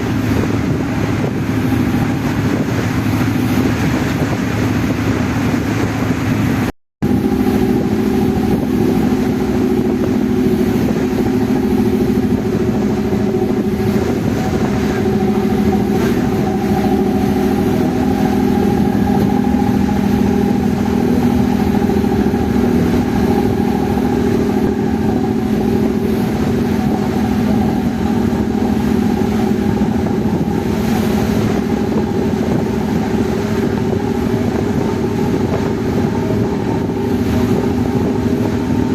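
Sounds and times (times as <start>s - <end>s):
ferry engine droning: 0.0s - 38.9s.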